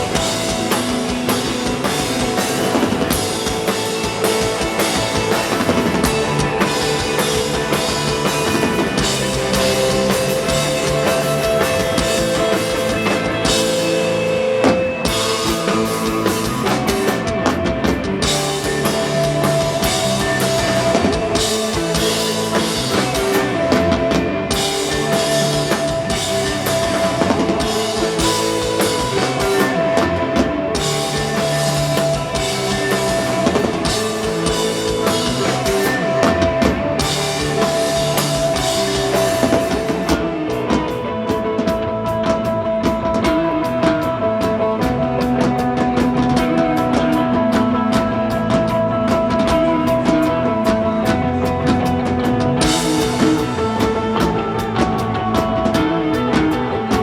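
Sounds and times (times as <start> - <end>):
bass guitar notes: 0.0 - 57.0
drum kit beat with cymbals: 0.0 - 57.0.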